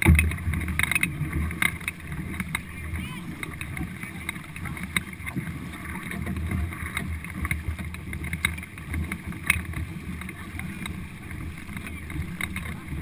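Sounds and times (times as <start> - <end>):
canoe paddles splashing: 0.0 - 13.0.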